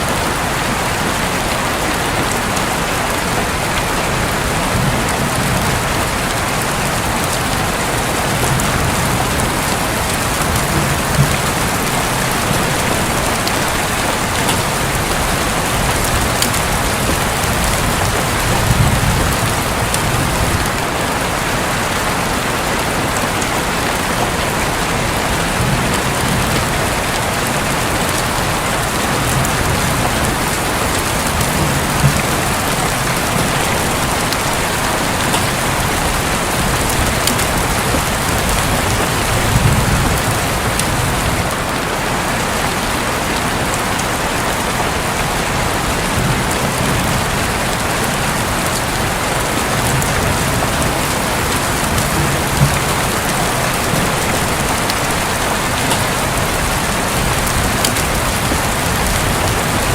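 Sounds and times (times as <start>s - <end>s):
rain drumming on a roof: 0.0s - 59.9s
faint thunder rumbles: 3.3s - 22.4s, 23.2s - 59.9s.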